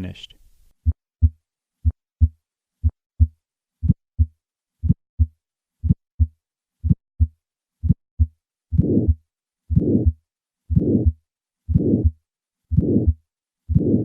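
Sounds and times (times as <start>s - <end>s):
heartbeat through stethoscope: 0.8s - 14.0s.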